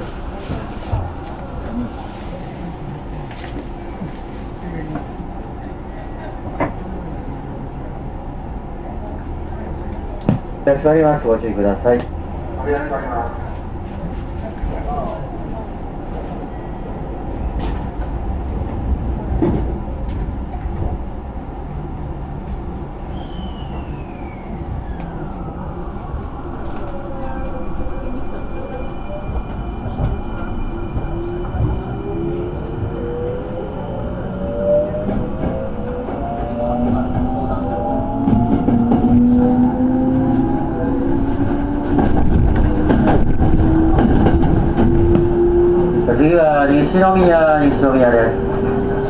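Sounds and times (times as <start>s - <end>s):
electric train rumbling: 0.0s - 49.0s.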